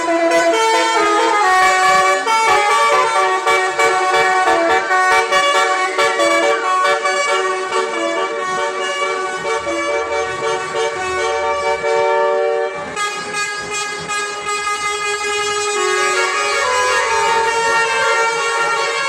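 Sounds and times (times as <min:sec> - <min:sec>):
musical bus air horn: 0:00.0 - 0:19.0.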